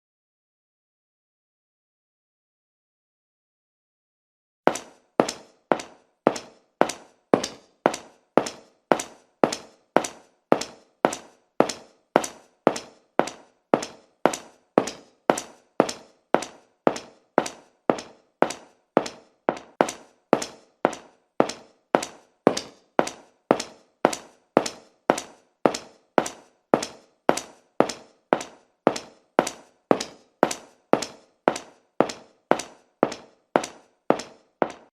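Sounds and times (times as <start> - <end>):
footsteps tapping: 4.7 - 34.9.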